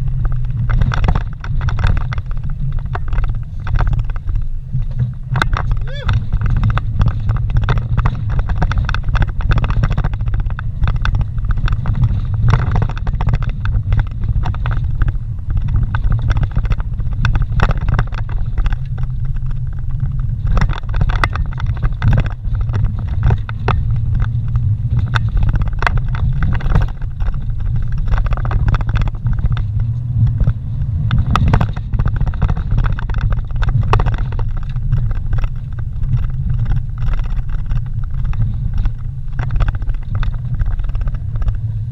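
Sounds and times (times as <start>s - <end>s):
engine and tyre rumble: 0.0s - 41.9s
vehicle knocks and rattles: 0.0s - 41.9s.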